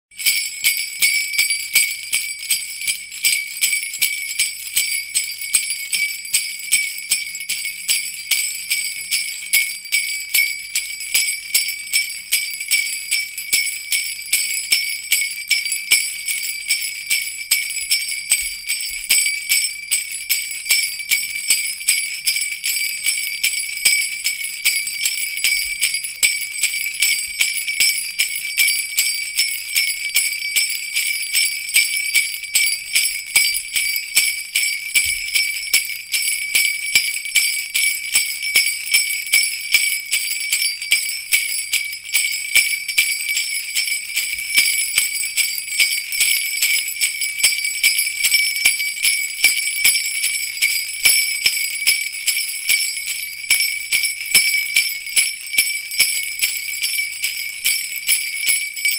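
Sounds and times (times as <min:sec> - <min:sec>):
sleigh bells jingling: 0:00.1 - 0:58.9.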